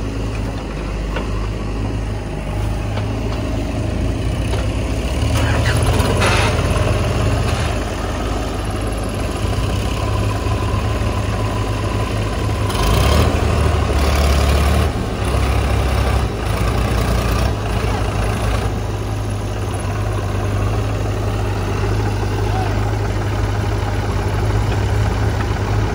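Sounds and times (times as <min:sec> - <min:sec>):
tractor diesel engine idling: 0:00.0 - 0:25.9.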